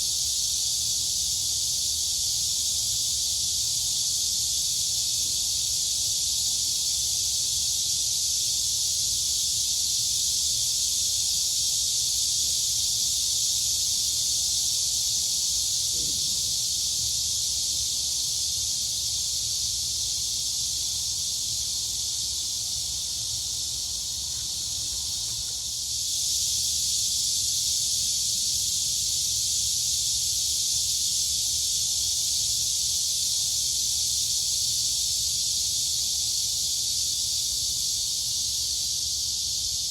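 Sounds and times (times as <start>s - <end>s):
crickets and cicadas buzzing: 0.0s - 39.9s.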